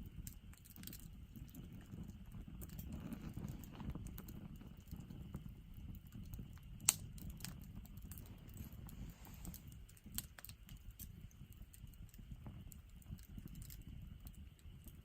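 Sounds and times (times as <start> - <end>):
fire popping: 0.0 - 15.0
firewood burning and crackling: 0.0 - 15.0.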